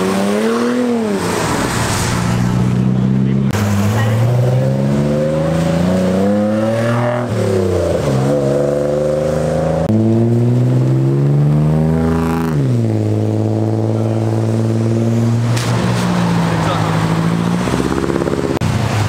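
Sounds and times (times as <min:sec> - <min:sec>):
car engines accelerating: 0:00.0 - 0:19.0.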